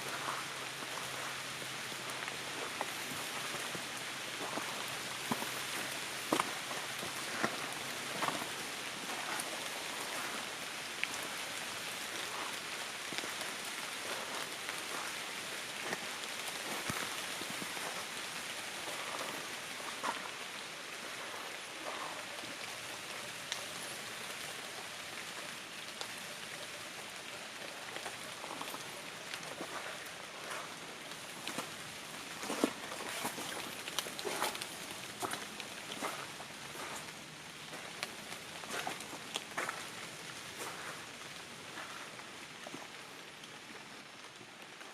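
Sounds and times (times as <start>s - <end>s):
light rain on leaves: 0.0s - 44.9s
rain drops: 0.0s - 44.9s.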